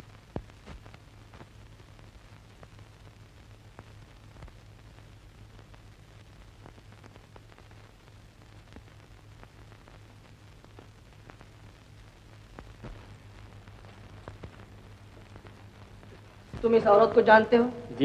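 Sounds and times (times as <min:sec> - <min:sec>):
faint clicks and crackles: 0:00.0 - 0:18.0
film hiss: 0:00.0 - 0:18.0
low hum: 0:00.0 - 0:18.0.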